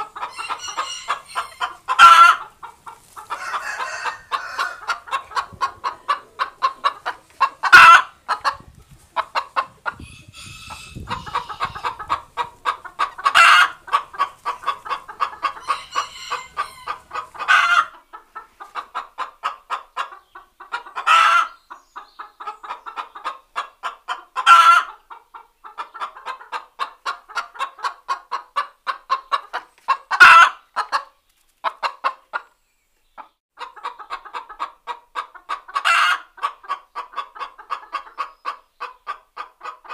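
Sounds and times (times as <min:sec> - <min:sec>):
hen cackling: 0:00.0 - 0:21.6, 0:22.2 - 0:31.0, 0:33.6 - 0:39.9.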